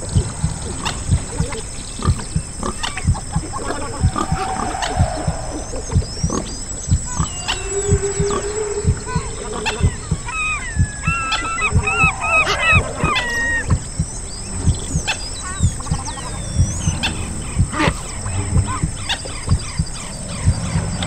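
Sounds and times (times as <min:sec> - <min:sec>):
humpback whale song: 0:00.0 - 0:21.0.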